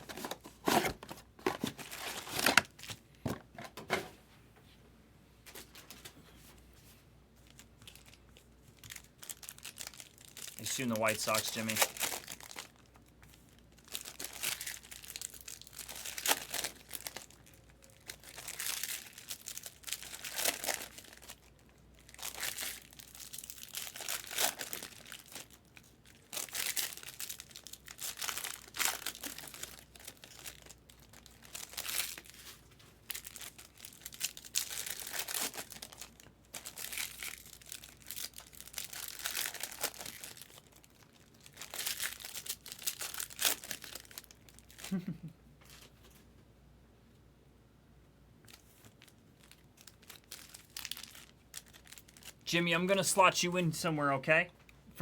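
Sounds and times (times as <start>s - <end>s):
plastic wrapping crinkling: 0.0s - 3.1s, 7.4s - 46.2s, 48.4s - 53.7s.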